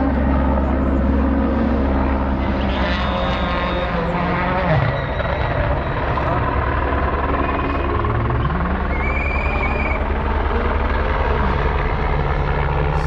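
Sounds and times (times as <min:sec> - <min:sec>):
rally car engine droning: 0:00.0 - 0:13.0.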